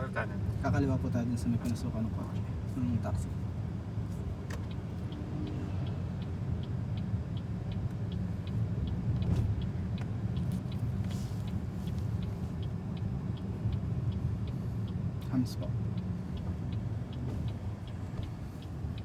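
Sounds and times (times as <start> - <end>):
road and tyre rumble: 0.0 - 19.0
turn signal ticking: 0.0 - 19.0.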